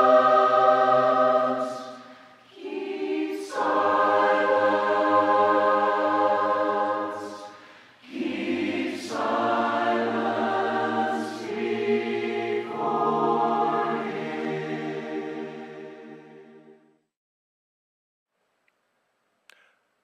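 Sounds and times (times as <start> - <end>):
choir singing a hymn: 0.0 - 16.9.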